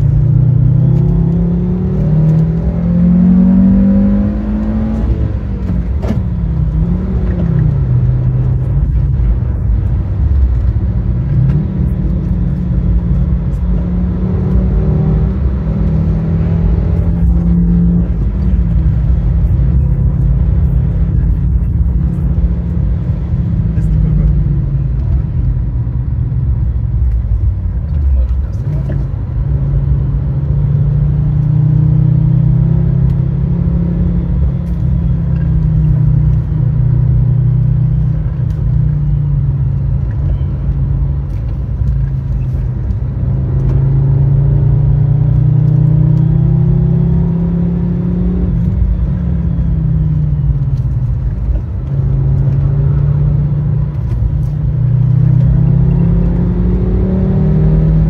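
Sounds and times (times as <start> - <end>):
car engine accelerating hard: 0.0 - 58.0
road noise: 0.0 - 58.0.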